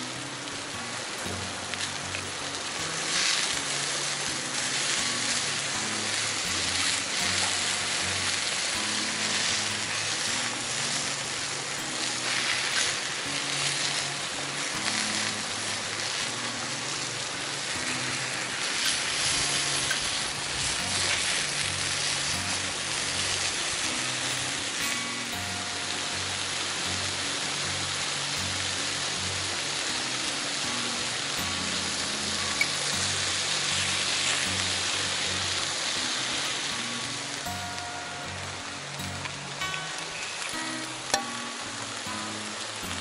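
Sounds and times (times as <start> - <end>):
food sizzling in pan: 0.0 - 43.0
soft background music: 0.0 - 43.0.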